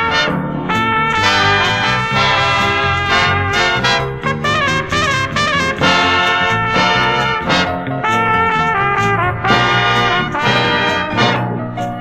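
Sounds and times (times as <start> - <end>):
trumpet leading brass section: 0.0 - 11.6.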